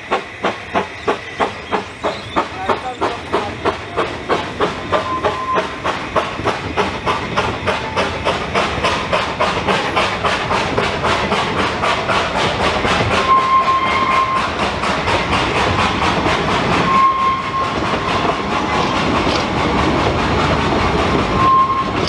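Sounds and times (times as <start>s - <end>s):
steam locomotive exhaust beats: 0.0s - 22.0s.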